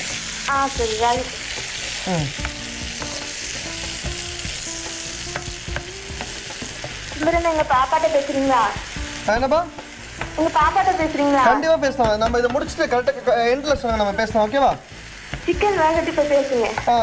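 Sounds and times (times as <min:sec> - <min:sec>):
chicken sizzling in a pan: 0:00.0 - 0:17.0
spatula scraping and tapping pan: 0:00.8 - 0:17.0.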